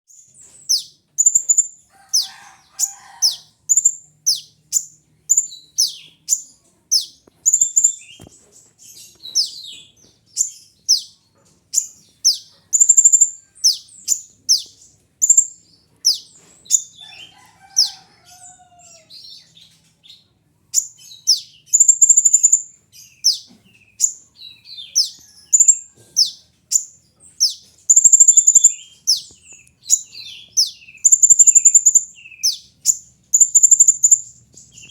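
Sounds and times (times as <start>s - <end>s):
sunbird singing high chirps: 0.1s - 8.3s, 8.9s - 17.9s, 19.1s - 34.9s.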